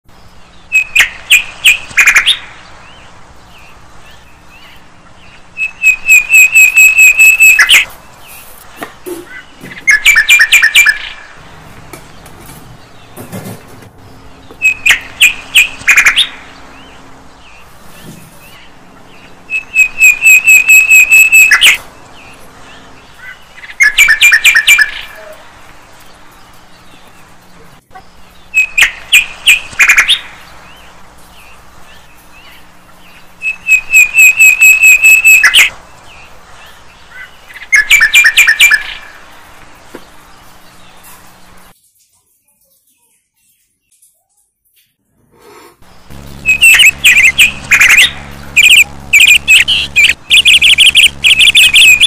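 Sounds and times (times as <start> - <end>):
bird chirping in rapid runs: 0.1 - 11.4, 14.0 - 39.3, 45.9 - 52.0.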